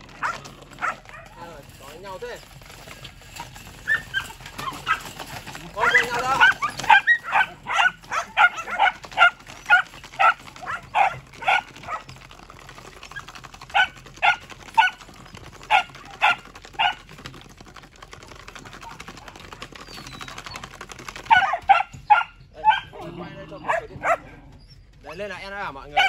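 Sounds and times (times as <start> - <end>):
puppies barking: 0.0 - 1.6, 3.3 - 17.5, 18.2 - 26.0.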